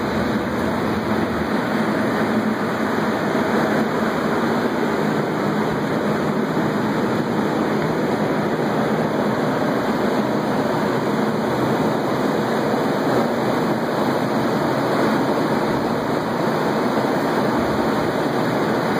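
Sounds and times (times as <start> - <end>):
loud rushing air from fans: 0.0 - 18.9.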